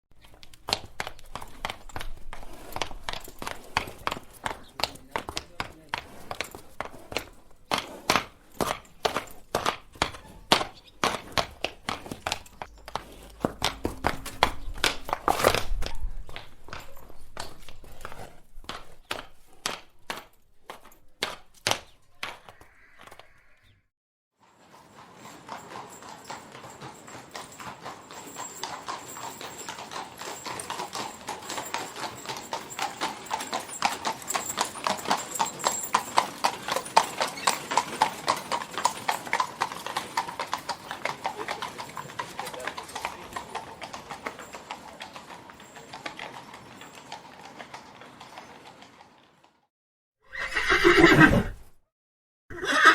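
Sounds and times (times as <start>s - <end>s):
horse hooves clip-clopping: 0.1s - 23.5s, 24.4s - 49.6s
fast galloping hoofbeats: 0.2s - 23.2s, 24.4s - 48.6s.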